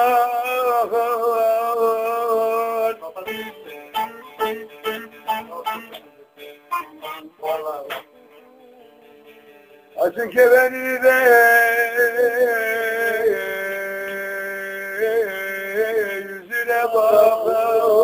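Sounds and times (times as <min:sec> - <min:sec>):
man singing long notes: 0:00.0 - 0:06.0, 0:06.7 - 0:08.2, 0:10.0 - 0:18.0.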